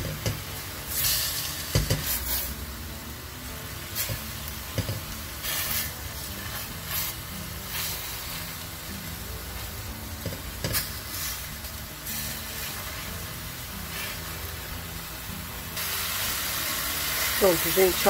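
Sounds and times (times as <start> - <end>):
beef sizzling in hot fat: 0.0 - 18.0.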